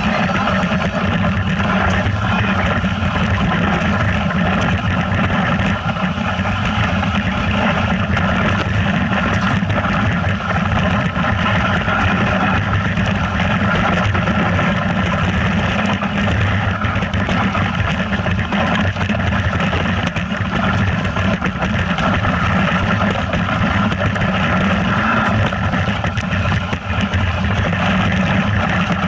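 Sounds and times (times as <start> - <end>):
rushing noise: 0.0 - 29.0
vehicle engine running: 0.0 - 29.0.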